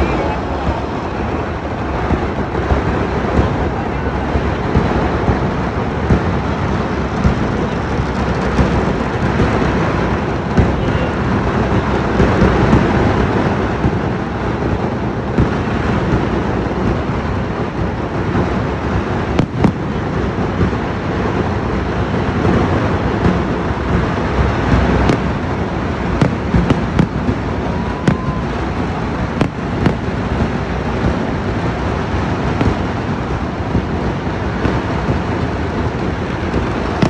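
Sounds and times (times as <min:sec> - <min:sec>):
firework explosions rumbling: 0:00.0 - 0:37.0
sharp firework bangs: 0:00.0 - 0:37.0.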